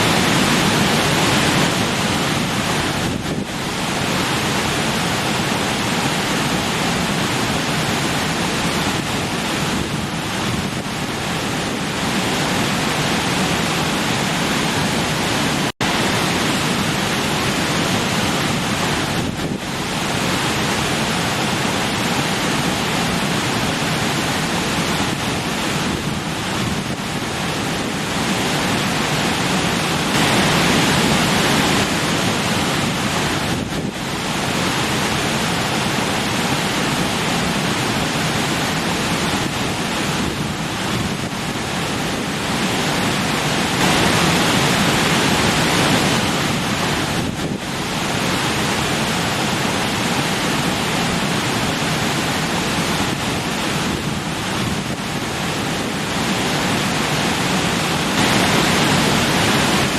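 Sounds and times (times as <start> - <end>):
stream water splashing over rocks: 0.0 - 59.9.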